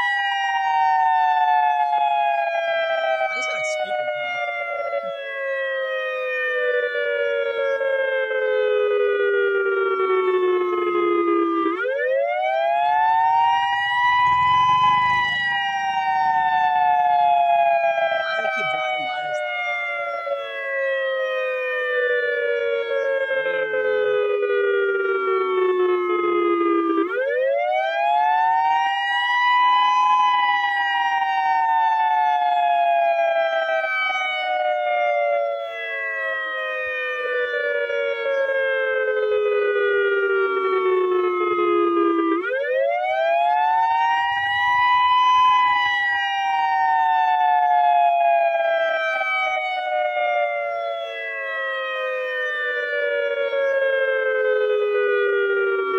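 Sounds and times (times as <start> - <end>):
warning siren wailing: 0.0 - 55.9.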